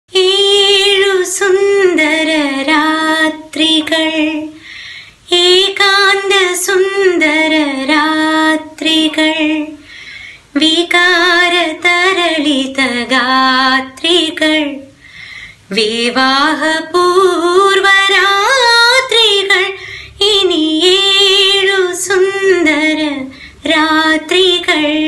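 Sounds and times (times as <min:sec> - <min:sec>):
woman singing: 0:00.1 - 0:04.6, 0:05.2 - 0:09.8, 0:10.5 - 0:15.0, 0:15.7 - 0:25.0.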